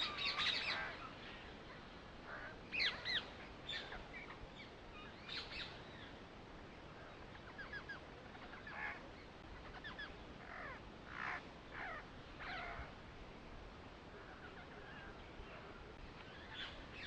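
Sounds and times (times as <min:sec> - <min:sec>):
birds chirping: 0:00.0 - 0:13.0, 0:14.0 - 0:17.0
faint background hiss: 0:00.0 - 0:17.0.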